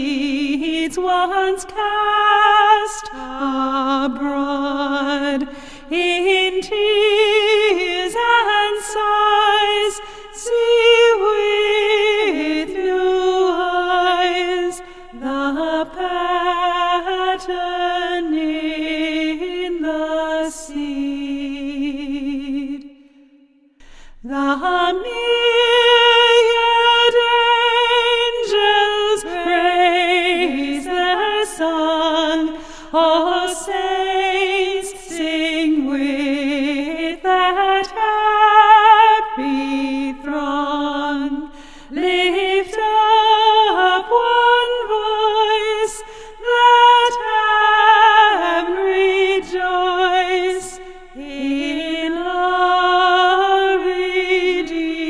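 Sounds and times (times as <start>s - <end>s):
person singing a hymn: 0.0s - 22.8s, 24.2s - 55.0s.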